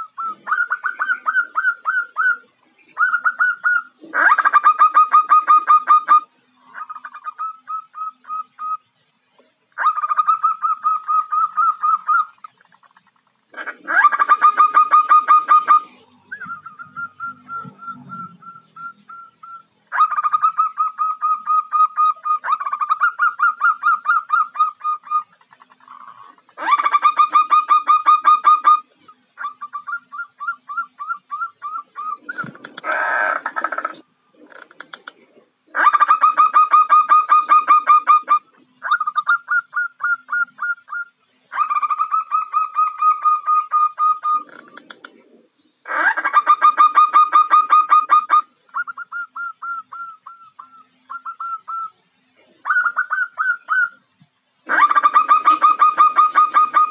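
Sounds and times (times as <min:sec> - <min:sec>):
dove trilled calls: 0:00.0 - 0:09.0, 0:09.7 - 0:56.9.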